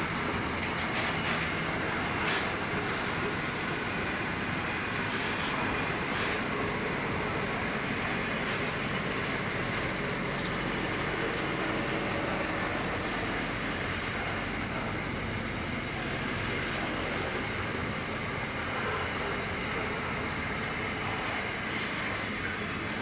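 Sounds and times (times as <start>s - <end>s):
freight train wagons on rails: 0.0s - 23.0s.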